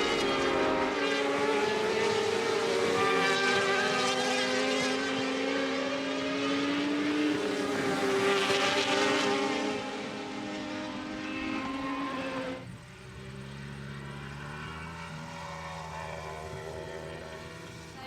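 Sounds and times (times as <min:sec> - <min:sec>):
motorcycle engines racing at high revs: 0:00.0 - 0:18.0.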